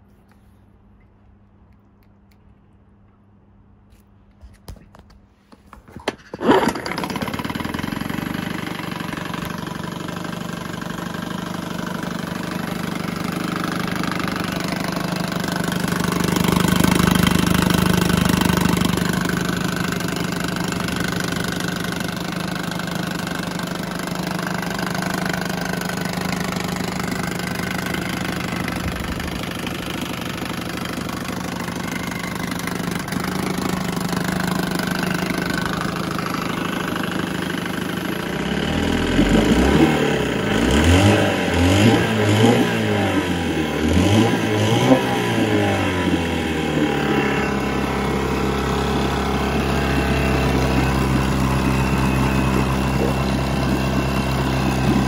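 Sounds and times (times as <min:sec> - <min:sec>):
outboard motor idling: 0:06.2 - 0:55.0.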